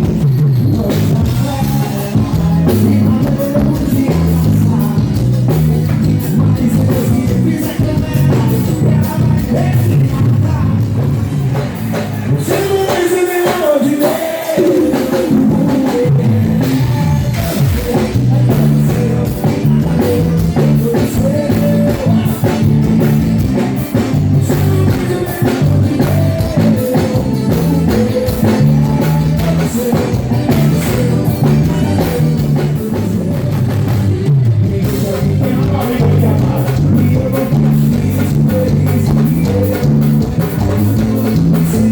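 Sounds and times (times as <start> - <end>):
live band music: 0.0 - 41.9
person singing: 0.1 - 41.9
drum beat: 1.1 - 41.9.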